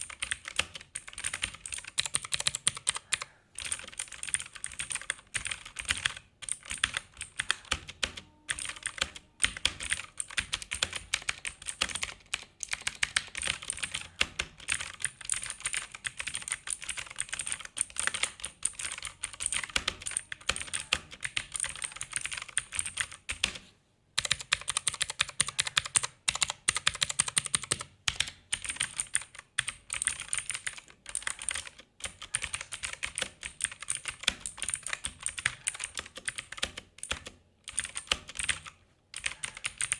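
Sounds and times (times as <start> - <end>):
fast typing on mechanical keyboard: 0.0 - 23.6, 24.2 - 39.9.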